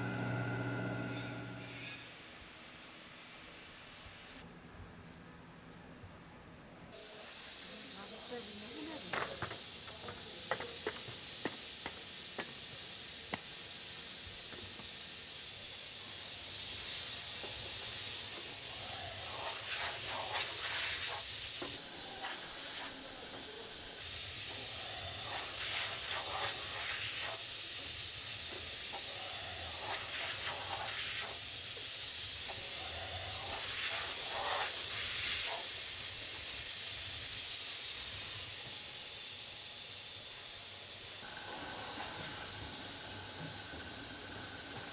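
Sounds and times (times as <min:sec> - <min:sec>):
steady high hiss: 0:01.7 - 0:04.7, 0:05.7 - 0:44.9.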